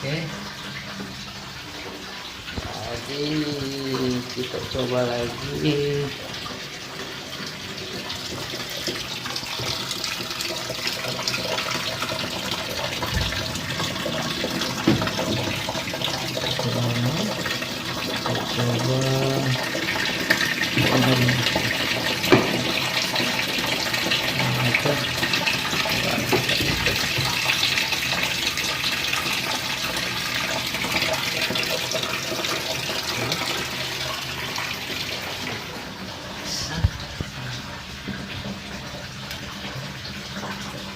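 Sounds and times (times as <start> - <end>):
tap water running into tub: 0.0 - 40.9.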